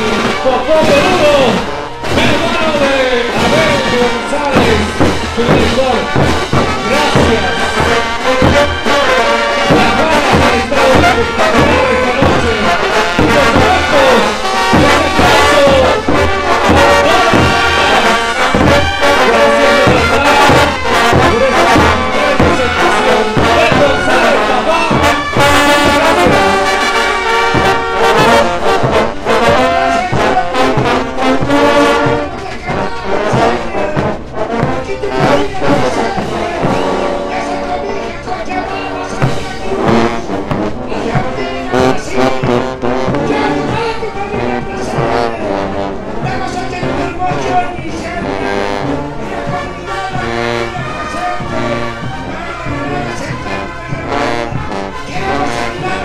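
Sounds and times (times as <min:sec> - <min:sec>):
bass drums: 0:00.0 - 0:56.0
snare drums: 0:00.0 - 0:56.0
trumpets and trombones: 0:00.0 - 0:56.0.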